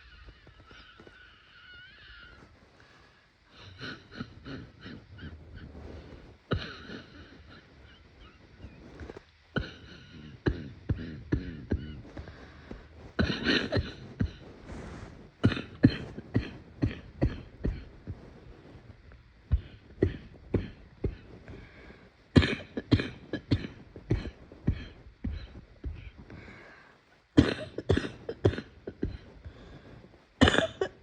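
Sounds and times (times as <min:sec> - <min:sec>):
person coughing: 0:03.5 - 0:08.3, 0:09.0 - 0:18.2, 0:19.5 - 0:26.7, 0:27.4 - 0:31.0.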